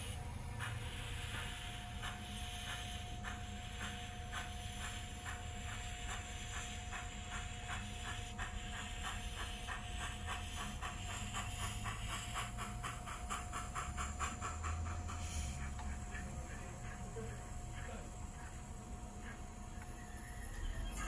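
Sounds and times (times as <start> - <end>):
steady hiss: 0.0 - 18.5
model steam locomotive chuffs: 0.0 - 21.0.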